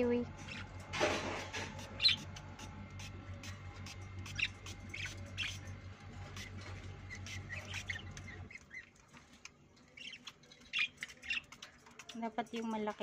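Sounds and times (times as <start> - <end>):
steady low hum: 0.0 - 13.0
parakeets squawking and chirping: 0.4 - 12.7.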